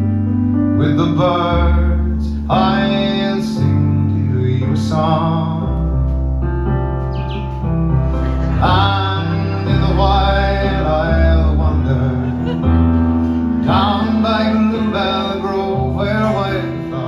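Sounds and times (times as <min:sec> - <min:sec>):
guitar: 0:00.0 - 0:17.0
keyboard chords: 0:00.0 - 0:17.0
man singing: 0:00.8 - 0:06.1, 0:08.4 - 0:17.0.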